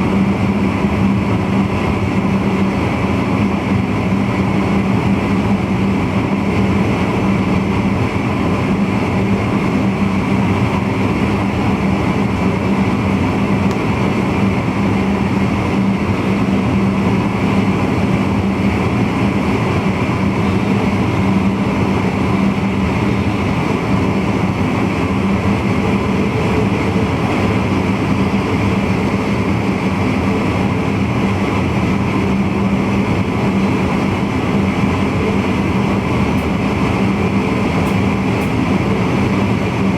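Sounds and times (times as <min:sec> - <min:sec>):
electric train running: 0:00.0 - 0:39.9.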